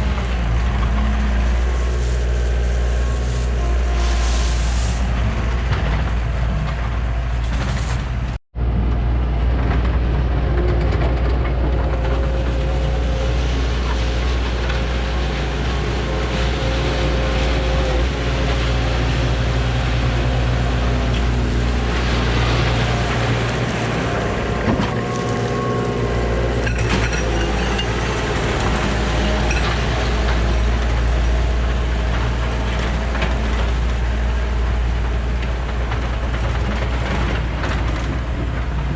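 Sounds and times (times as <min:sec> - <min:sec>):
hydraulic whine: 0:00.0 - 0:08.4, 0:10.2 - 0:38.2
excavator diesel engine: 0:00.0 - 0:38.9.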